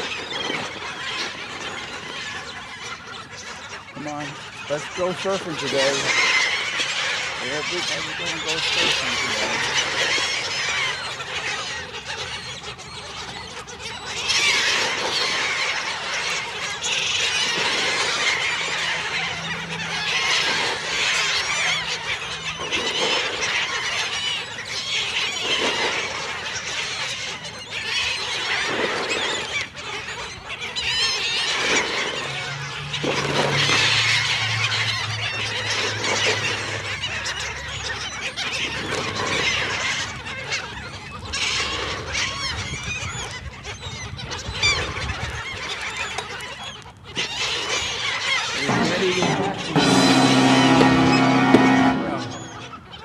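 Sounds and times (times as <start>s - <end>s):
seagulls calling: 0.0s - 53.0s.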